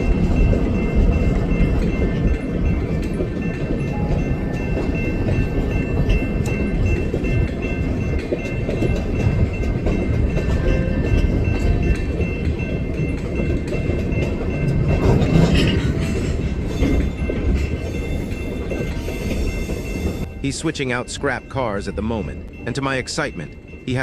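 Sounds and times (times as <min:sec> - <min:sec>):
background music: 0:00.0 - 0:24.0
train rolling by with rumble: 0:00.0 - 0:24.0.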